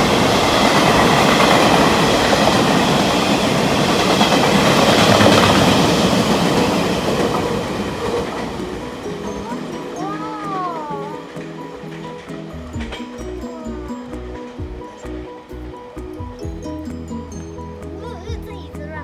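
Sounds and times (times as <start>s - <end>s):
train wheels rumbling over rails: 0.0s - 10.0s, 10.8s - 17.3s.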